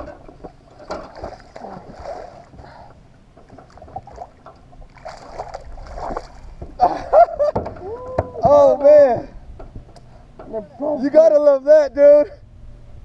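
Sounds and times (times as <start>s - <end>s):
water lapping against boat hull: 0.0s - 10.7s.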